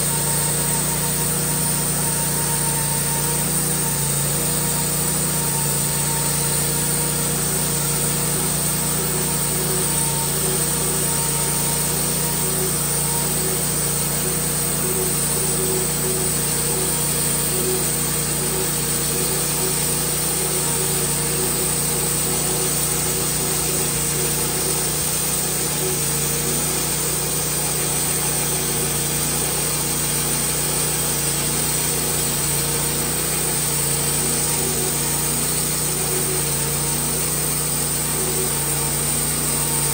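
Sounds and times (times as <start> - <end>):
bandsaw mill cutting log: 0.0 - 39.9.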